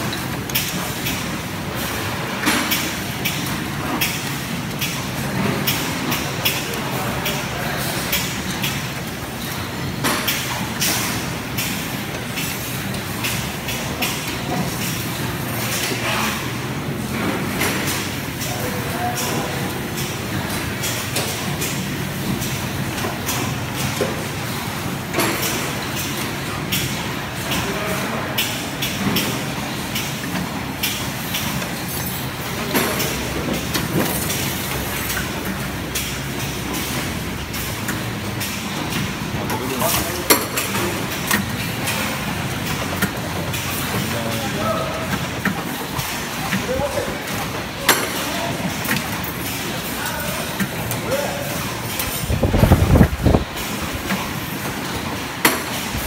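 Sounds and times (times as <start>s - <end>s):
machines mechanical hum: 0.0s - 56.0s.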